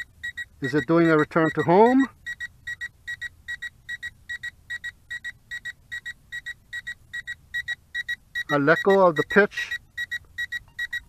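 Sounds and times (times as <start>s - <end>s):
remote controller double beeps: 0.0s - 11.0s.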